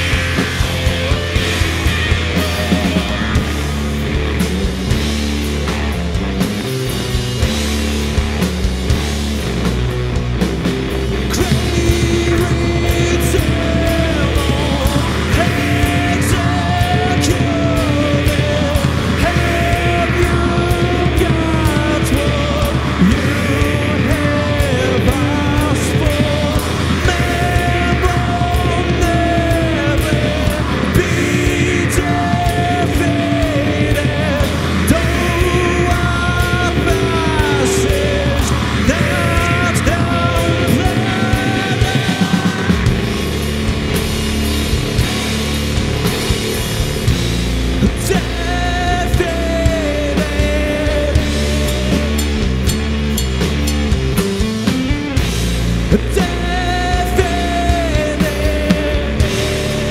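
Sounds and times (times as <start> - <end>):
electric guitar sliding melody: 0.0 - 7.2, 9.3 - 59.9
rock band playing: 0.0 - 59.9.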